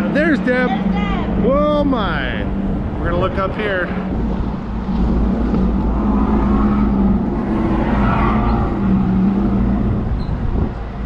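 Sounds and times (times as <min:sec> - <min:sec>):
electric go-karts humming: 0:00.0 - 0:11.0
wind rumble on microphone: 0:00.2 - 0:11.0.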